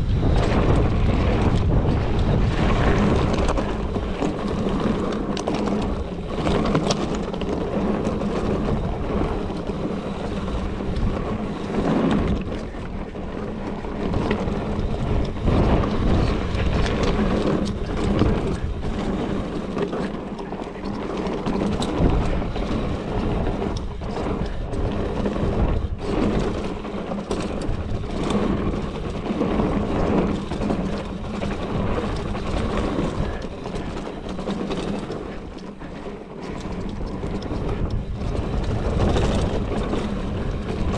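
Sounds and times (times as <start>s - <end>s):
bike rattling over bumps: 0.0s - 40.9s
bike tyres rolling on gravel: 0.0s - 40.9s.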